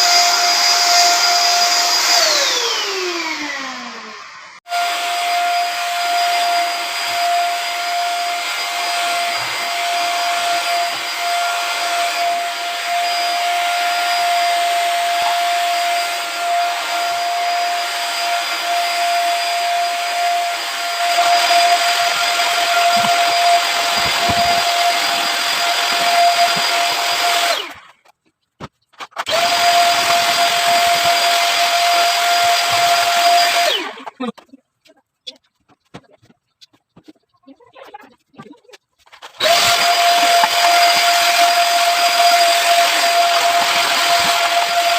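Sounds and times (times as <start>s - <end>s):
vacuum cleaner motor whining: 0.0s - 27.9s, 29.2s - 34.1s, 39.2s - 44.9s.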